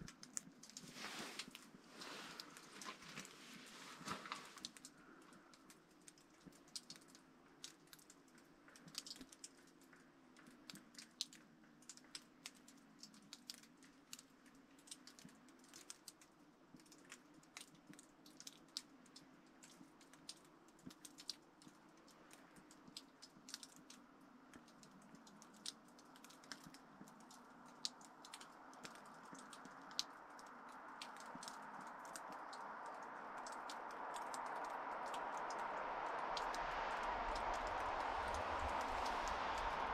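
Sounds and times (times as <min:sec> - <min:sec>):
stove crackles and ticks: 0:00.0 - 0:39.9.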